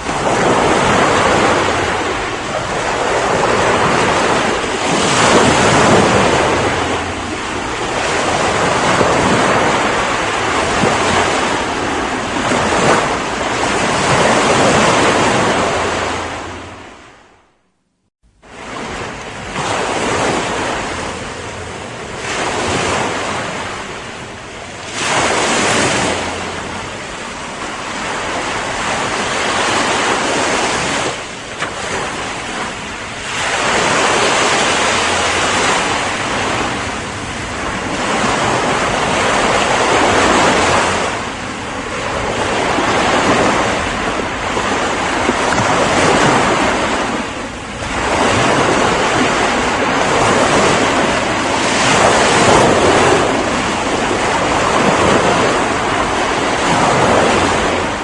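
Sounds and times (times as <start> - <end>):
ocean waves breaking: 0.0 - 17.6, 18.3 - 58.0.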